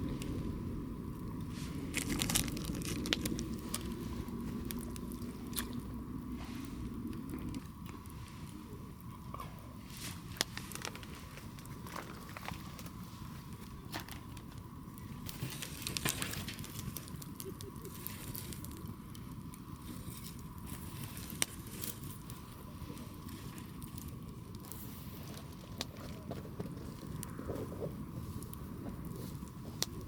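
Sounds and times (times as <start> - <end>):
campfire crackling and popping: 0.0 - 30.0
steady low rumble: 0.0 - 30.0.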